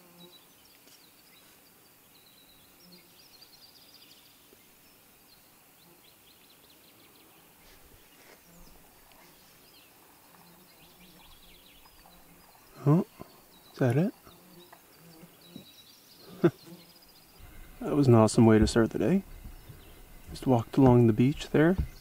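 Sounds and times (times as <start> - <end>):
low insect buzz: 0.0 - 22.0
small birds chirping: 0.0 - 22.0.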